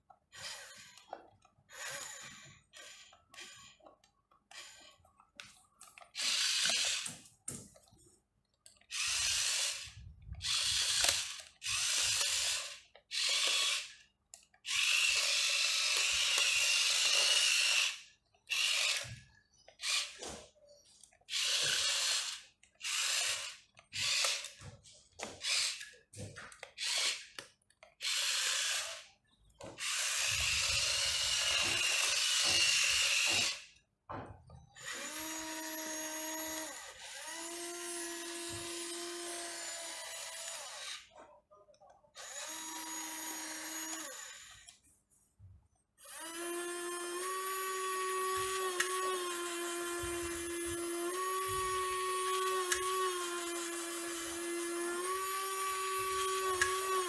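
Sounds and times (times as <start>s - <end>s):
toy excavator motors whirring: 0.0s - 44.9s, 45.9s - 57.0s.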